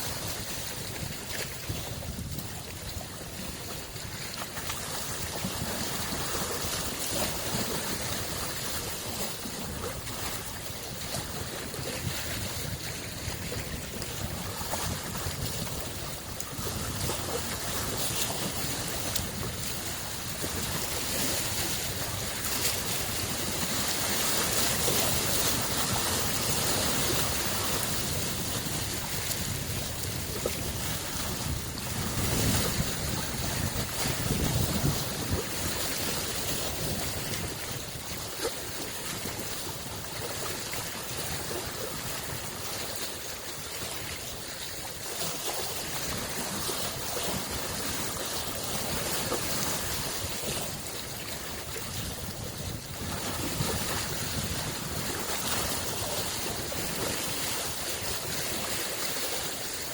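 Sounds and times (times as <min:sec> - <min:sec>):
lake waves washing on shore: 0:00.0 - 0:59.9.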